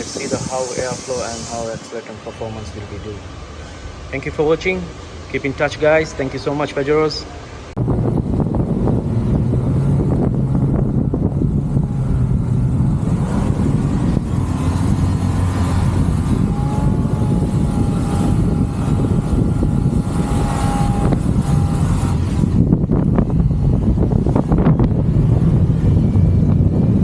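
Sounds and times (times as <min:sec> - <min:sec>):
car engine droning under load: 0:00.0 - 0:27.0
road and wind noise: 0:00.0 - 0:27.0.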